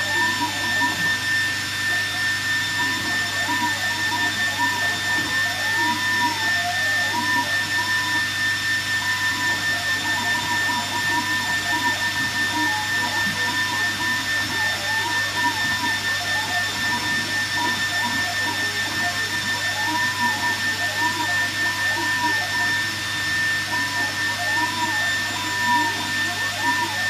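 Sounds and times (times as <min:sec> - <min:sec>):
steady high whine: 0:00.0 - 0:27.0
stepper motors whining: 0:00.0 - 0:27.0.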